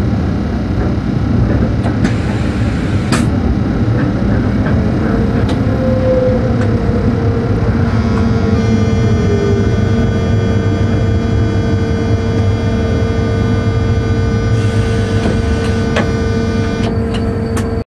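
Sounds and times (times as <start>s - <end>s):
electrical whine: 0.0s - 17.8s
locomotive low rumble: 0.0s - 17.8s.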